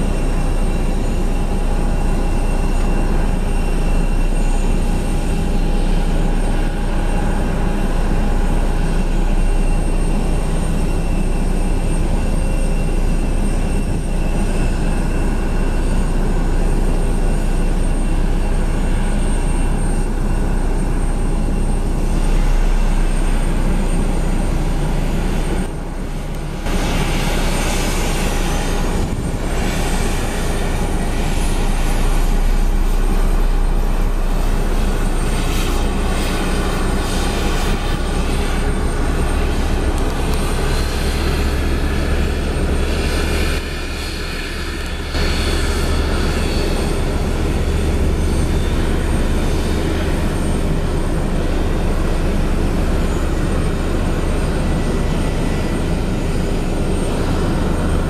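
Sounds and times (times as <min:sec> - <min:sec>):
jet engine whine: 0:00.0 - 0:58.0
jet engines rumbling: 0:00.0 - 0:58.0.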